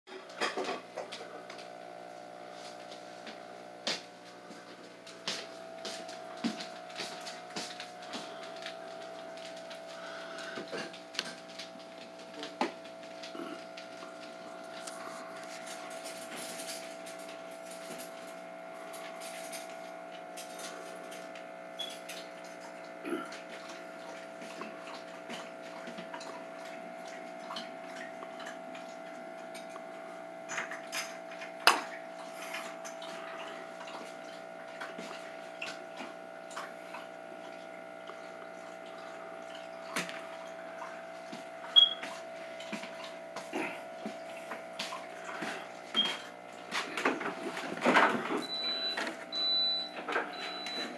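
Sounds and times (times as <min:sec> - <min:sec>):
aquarium equipment humming: 0:00.1 - 0:50.9.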